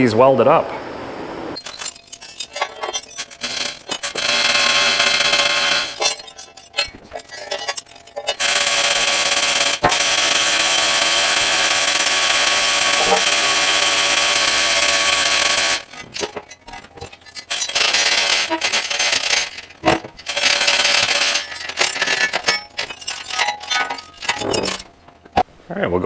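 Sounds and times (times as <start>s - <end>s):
chain hoist chain rattling: 1.6s - 25.3s.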